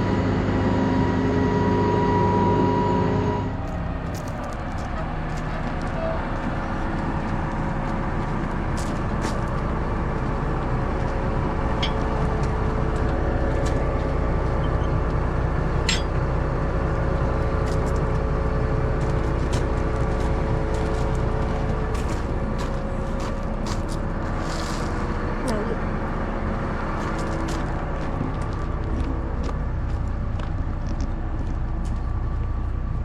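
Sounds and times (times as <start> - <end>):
large diesel engine running: 0.0 - 33.0.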